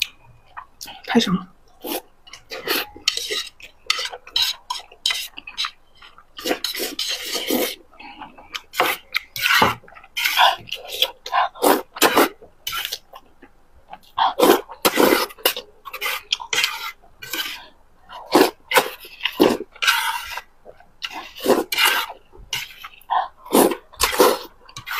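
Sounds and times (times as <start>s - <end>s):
noodles slurped and chewed: 1.8s - 13.3s, 13.9s - 24.9s.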